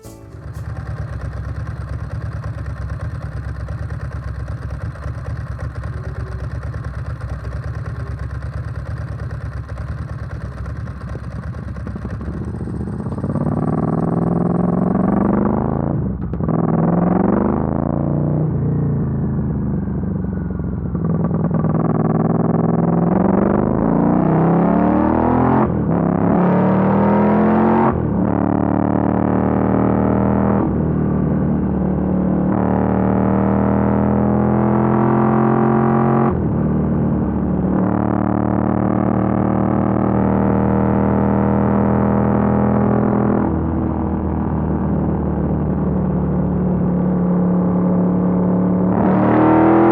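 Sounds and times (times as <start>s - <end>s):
motorcycle engine rumbling and revving: 0.0s - 49.9s.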